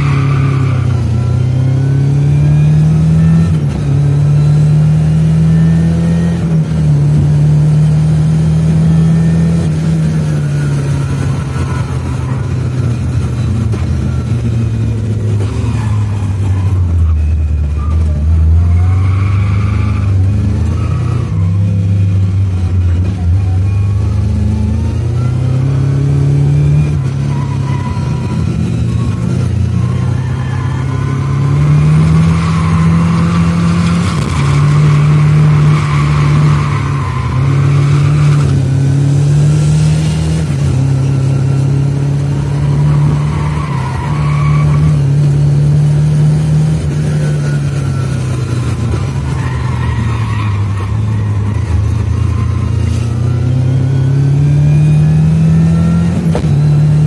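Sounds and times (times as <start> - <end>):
car engine revving and shifting: 0.0 - 57.0.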